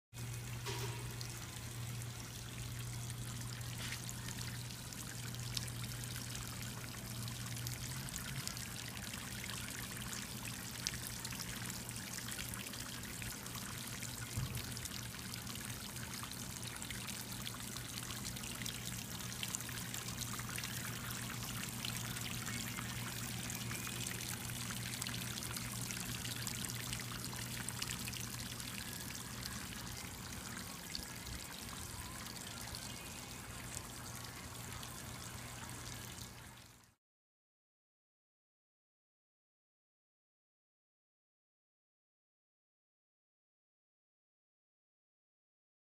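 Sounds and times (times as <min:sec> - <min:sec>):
low pump hum: 0:00.2 - 0:37.0.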